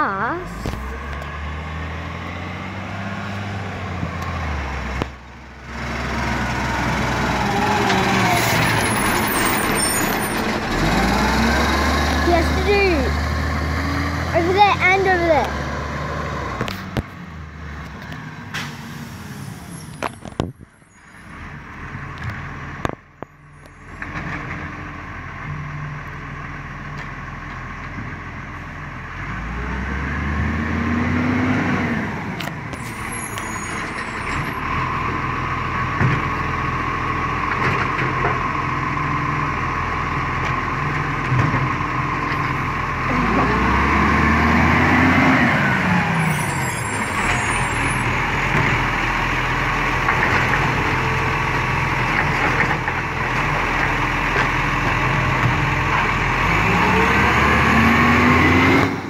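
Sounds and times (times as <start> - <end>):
garbage truck diesel engine revving: 0.0 - 20.0, 23.8 - 59.0.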